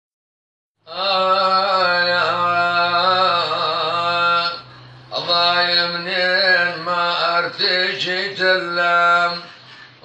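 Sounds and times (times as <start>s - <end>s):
man singing a long note: 0.8s - 9.5s.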